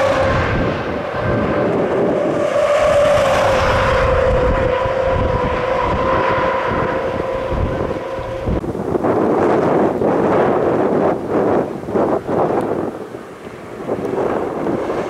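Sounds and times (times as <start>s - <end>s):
fire engines rumbling: 0.0s - 15.0s
road noise: 0.0s - 15.0s
steady whine: 0.0s - 15.0s
wind on microphone: 0.0s - 15.0s.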